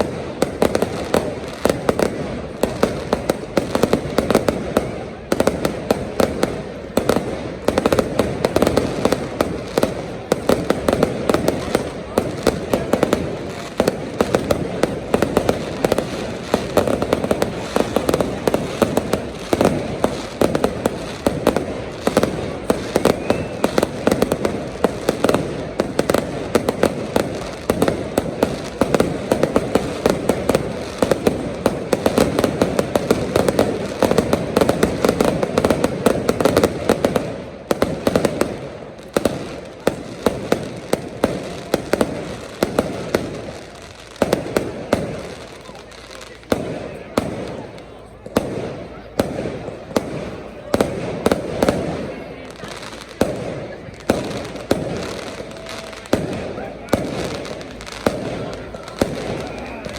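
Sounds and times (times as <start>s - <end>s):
crowd voices: 0.0s - 59.9s
fireworks crackling and banging: 0.0s - 59.9s.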